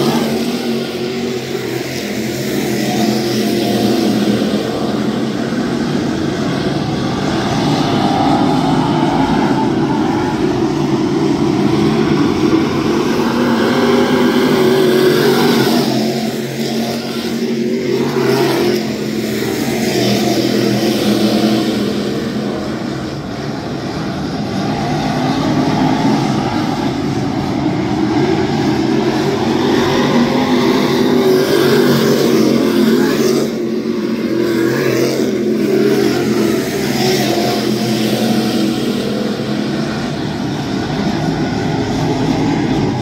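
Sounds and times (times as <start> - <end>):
race car engines droning: 0.0 - 43.0
race car passing close by: 0.0 - 43.0.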